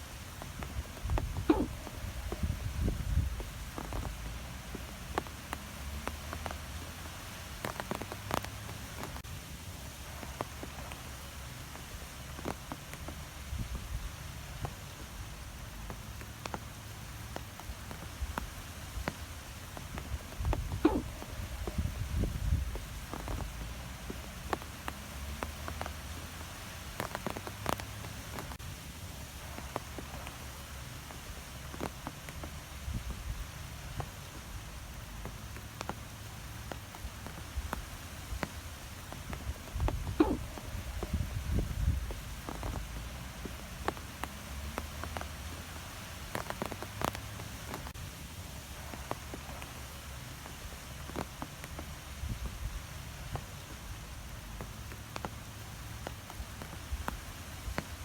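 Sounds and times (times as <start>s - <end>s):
wind blowing through trees: 0.0s - 58.0s
light ticks and taps: 10.1s - 28.6s, 29.3s - 48.0s, 48.7s - 58.0s.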